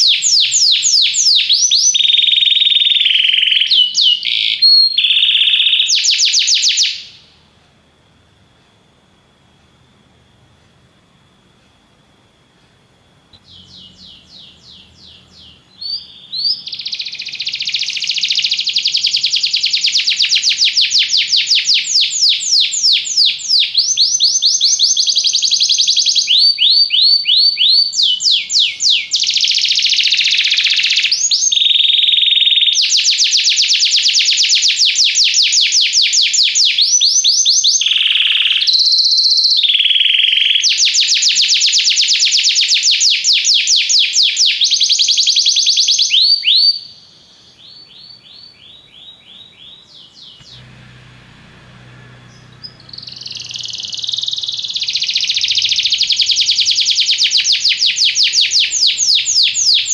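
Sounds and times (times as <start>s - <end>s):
canary singing trills: 0.0s - 7.2s, 13.4s - 59.9s.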